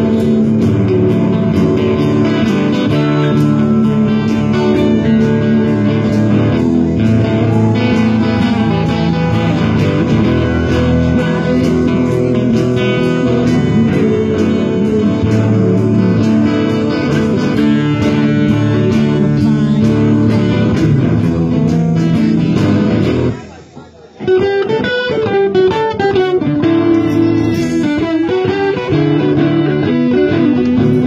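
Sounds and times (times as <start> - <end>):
live band music: 0.0 - 31.0.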